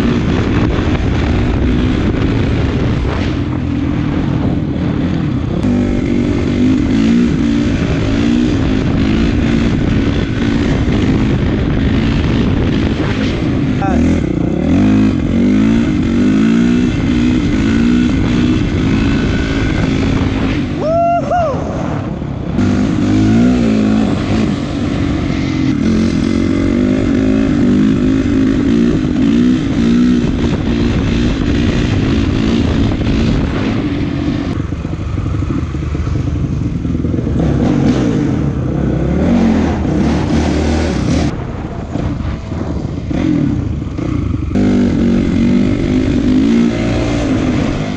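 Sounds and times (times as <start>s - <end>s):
dirt bike engine revving: 0.0s - 21.0s, 21.7s - 47.9s.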